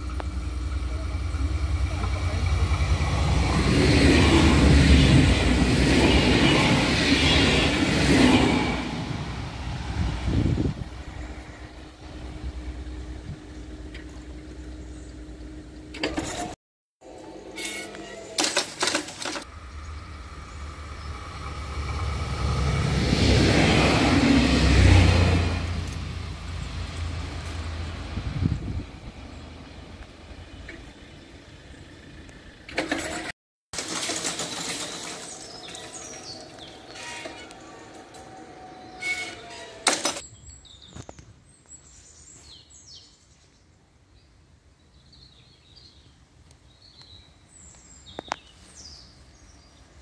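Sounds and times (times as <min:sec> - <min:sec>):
railcar engine and wheels rumbling: 0:00.0 - 0:40.6.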